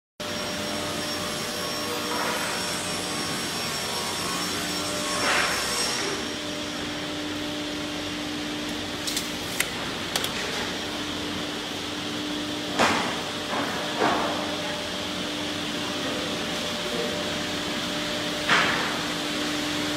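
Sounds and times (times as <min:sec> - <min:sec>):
workshop machinery motor hum: 0:00.2 - 0:19.9.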